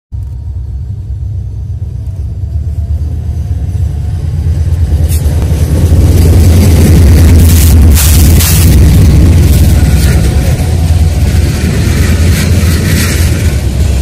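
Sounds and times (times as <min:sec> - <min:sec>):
diesel locomotive rumbling: 0:00.1 - 0:14.0.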